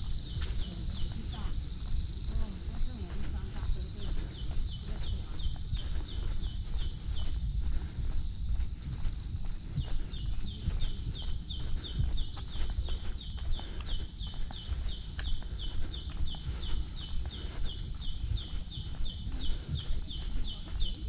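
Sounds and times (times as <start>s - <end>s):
low wind rumble: 0.0s - 21.0s.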